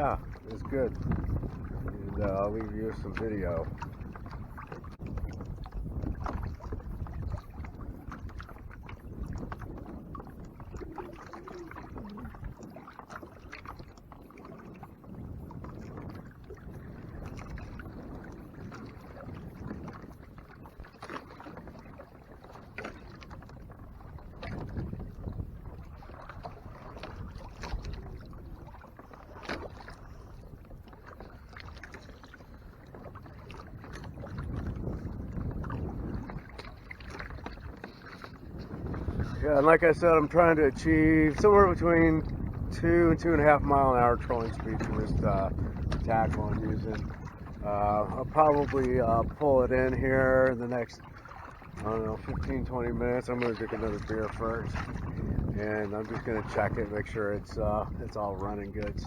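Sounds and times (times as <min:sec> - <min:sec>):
water slapping against kayak hull: 0:00.0 - 0:59.0
wind rumble on microphone: 0:00.0 - 0:59.0.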